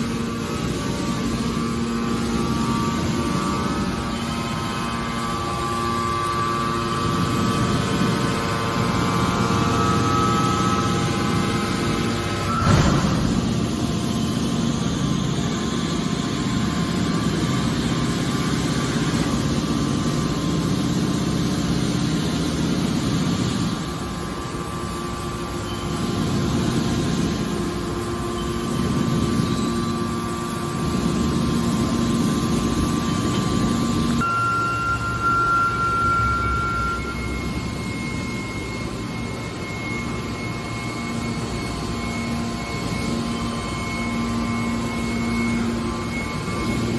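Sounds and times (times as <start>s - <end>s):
hydraulic machine drone: 0.0s - 46.9s
steady whine: 0.0s - 46.9s.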